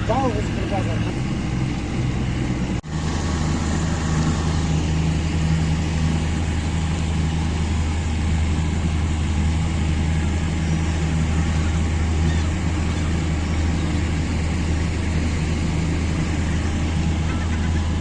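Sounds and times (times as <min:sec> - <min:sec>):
broad rushing noise: 0:00.0 - 0:18.0
motor engine humming: 0:00.0 - 0:18.0.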